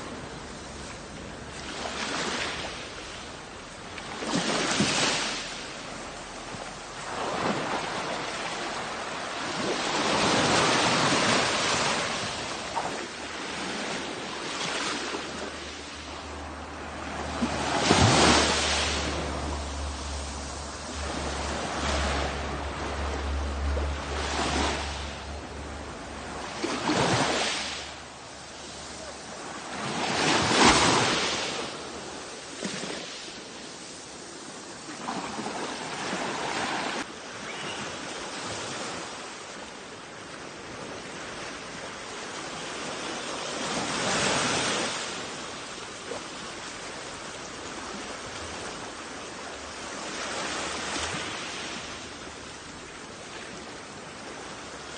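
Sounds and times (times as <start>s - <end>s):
sea waves washing ashore: 0.0s - 54.9s
waves breaking: 0.0s - 54.9s.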